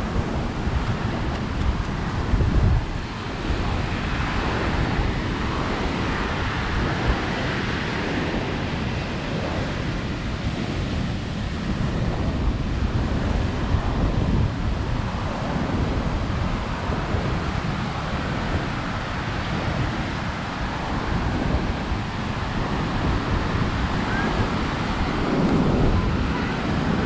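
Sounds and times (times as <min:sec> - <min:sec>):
ocean surf breaking: 0:00.0 - 0:27.0
wind buffeting microphone: 0:00.0 - 0:27.0.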